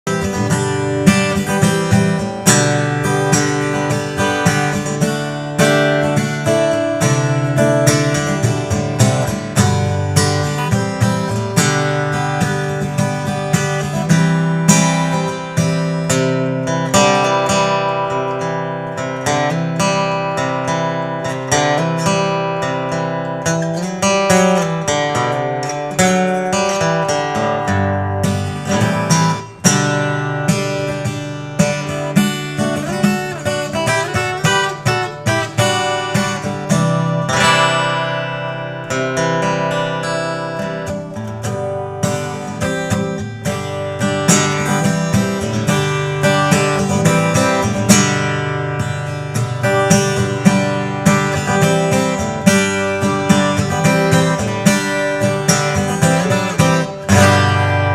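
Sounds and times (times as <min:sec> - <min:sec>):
acoustic guitar chords: 0:00.0 - 0:57.9.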